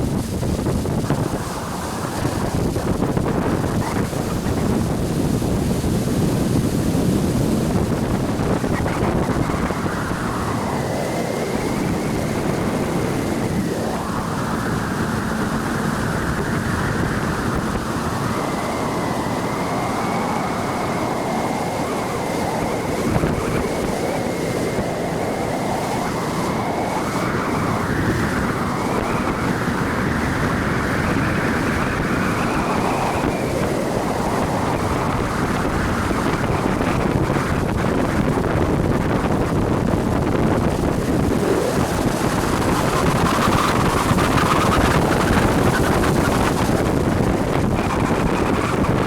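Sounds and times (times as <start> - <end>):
jet ski engine whine: 0.0 - 49.0
water rushing: 0.0 - 49.0
wind buffeting microphone: 0.0 - 49.0.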